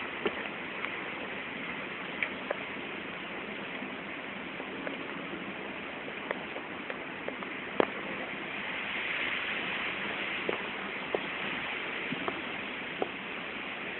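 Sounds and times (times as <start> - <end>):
rain falling: 0.0 - 13.9.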